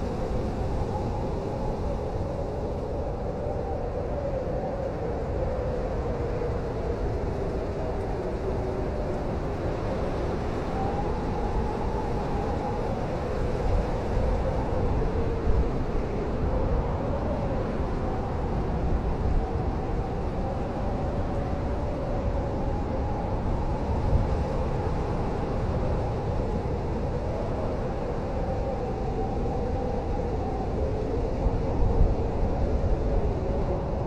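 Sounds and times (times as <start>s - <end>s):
blizzard wind howling: 0.0s - 34.0s.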